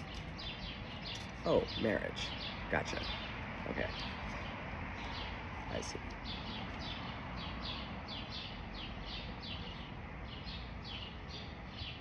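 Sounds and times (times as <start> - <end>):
low background noise: 0.0 - 12.0
songbird chirping: 0.0 - 12.0.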